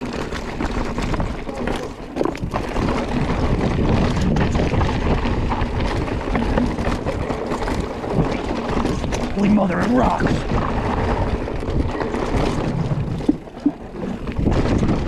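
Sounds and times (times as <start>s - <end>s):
bike knocking and rattling: 0.0s - 15.0s
bike tyres rolling over rocks: 0.0s - 15.0s
wind buffeting microphone: 0.0s - 15.0s.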